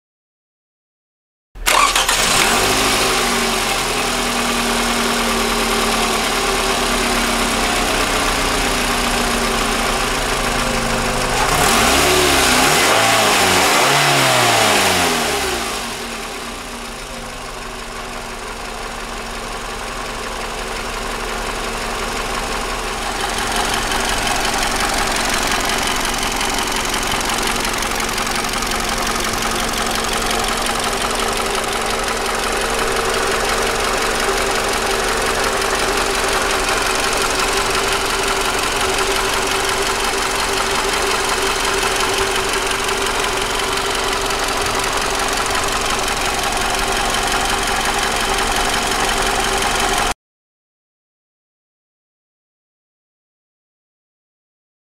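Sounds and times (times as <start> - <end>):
car engine idling and revving: 1.6 - 50.2.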